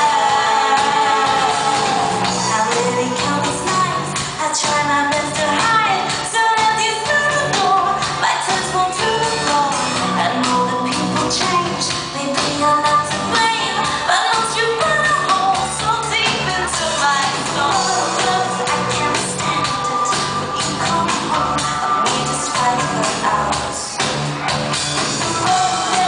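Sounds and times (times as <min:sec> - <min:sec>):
woman singing into a microphone: 0:00.0 - 0:24.0, 0:25.2 - 0:26.0.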